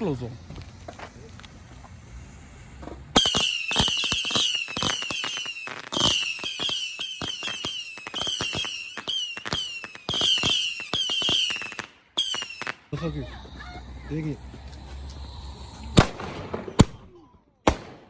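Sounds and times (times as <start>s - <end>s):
firework hissing crackle: 0.0s - 17.2s
firework bangs: 0.0s - 18.0s.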